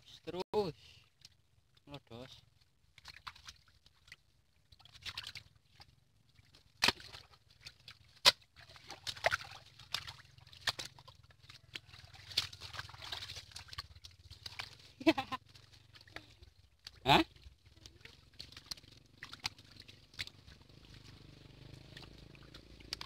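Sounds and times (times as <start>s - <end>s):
shallow water splashing: 1.0s - 23.0s.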